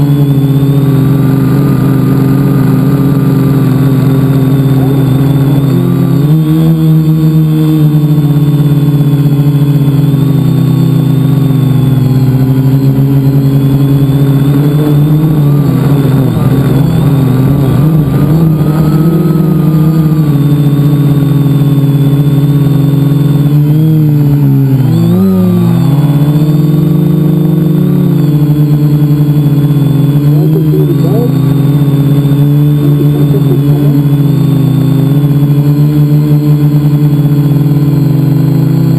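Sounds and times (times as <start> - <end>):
drone motors and propellers humming: 0.0 - 38.9.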